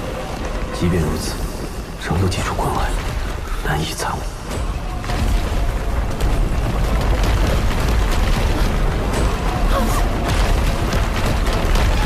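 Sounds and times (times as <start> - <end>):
background music: 0.0 - 12.0
crackling crashes: 0.0 - 12.0
deep continuous rumble: 0.0 - 12.0.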